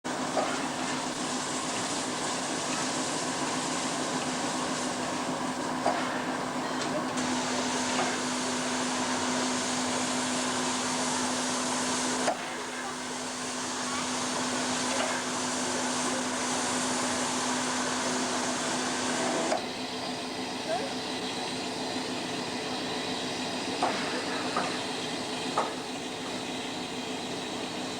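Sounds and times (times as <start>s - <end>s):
steam hissing: 0.2s - 20.3s, 21.5s - 27.9s.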